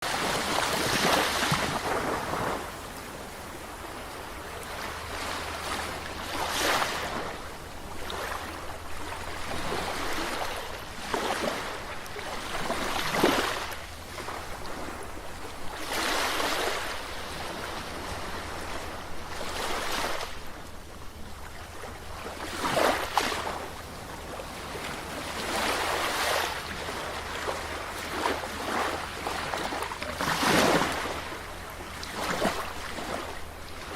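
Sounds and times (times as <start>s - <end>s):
ocean waves breaking: 0.0s - 33.9s.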